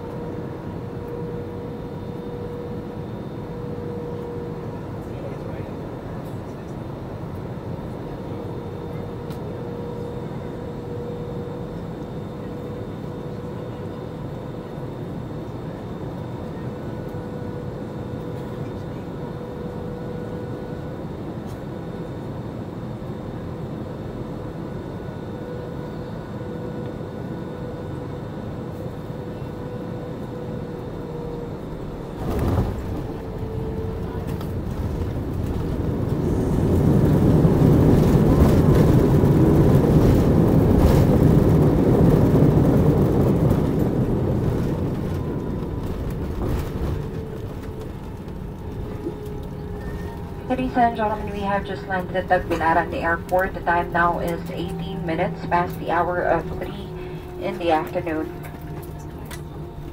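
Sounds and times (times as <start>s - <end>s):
jet engine hum in cabin: 0.0s - 59.9s.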